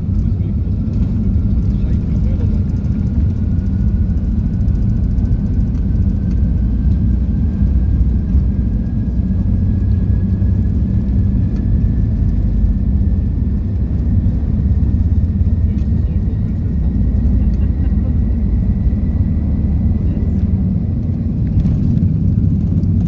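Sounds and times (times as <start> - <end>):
deep rumble of engines and wheels: 0.0 - 23.0.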